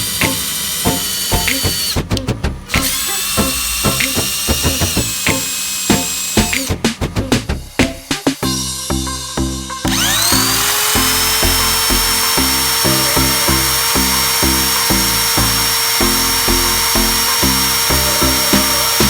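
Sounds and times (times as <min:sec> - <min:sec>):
vacuum cleaner whining: 0:00.0 - 0:08.4, 0:09.9 - 0:19.0
music with steady beat: 0:00.0 - 0:19.0.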